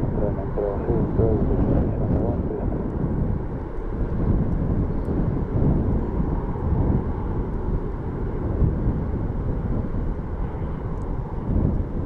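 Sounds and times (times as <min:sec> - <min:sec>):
jet engines deep rumble: 0:00.0 - 0:12.0.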